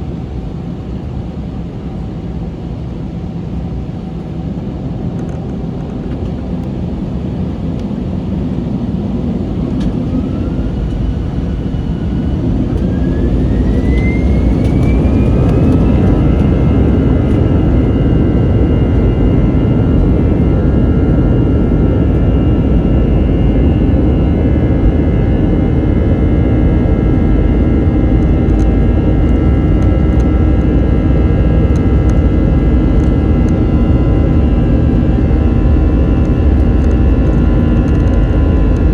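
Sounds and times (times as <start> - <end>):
jet engine whine: 0.0 - 38.9
loud engine rumble: 4.8 - 38.9.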